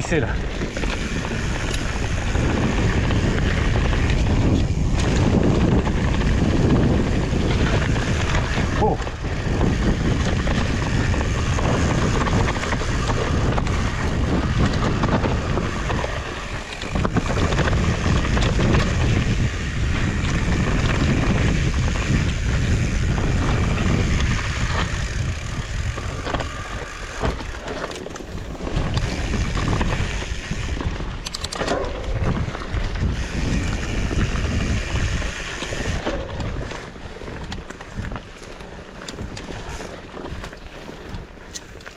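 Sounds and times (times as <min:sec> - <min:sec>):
bike tyre and frame rattle: 0:00.0 - 0:41.9
wind buffeting microphone: 0:00.0 - 0:41.9.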